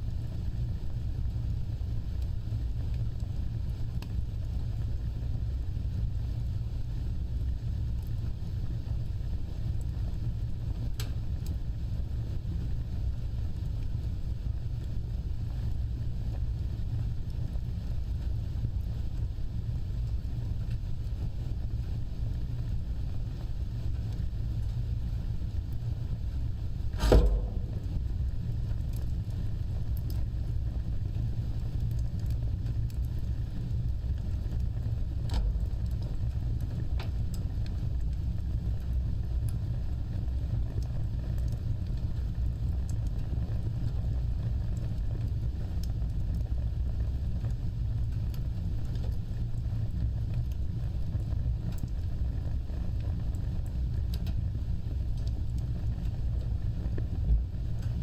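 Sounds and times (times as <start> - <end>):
fire crackling: 0.0 - 58.0
wood fire flames rumbling: 0.0 - 58.0
fire popping: 0.1 - 58.0.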